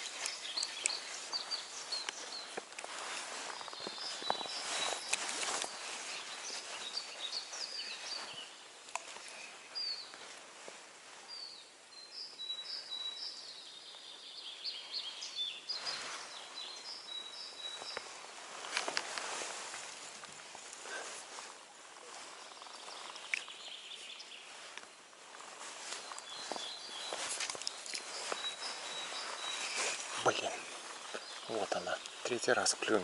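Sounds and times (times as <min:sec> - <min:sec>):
rustling: 0:00.0 - 0:11.6, 0:15.0 - 0:33.0
songbirds chirping and trilling: 0:00.0 - 0:33.0.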